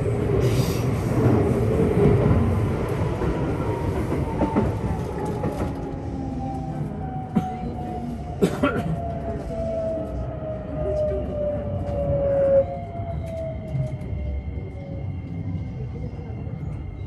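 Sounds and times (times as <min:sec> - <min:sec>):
electric train rumble with whine: 0:00.0 - 0:17.0.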